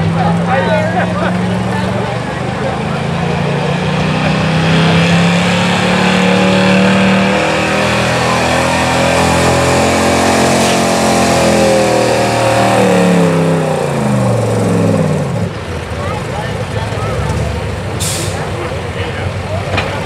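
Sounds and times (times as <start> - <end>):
truck engine at high revs: 0.0 - 20.0.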